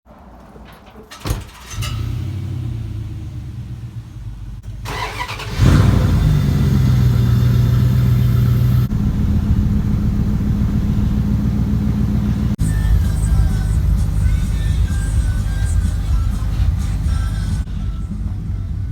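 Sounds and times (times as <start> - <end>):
truck engine running: 0.2 - 18.9.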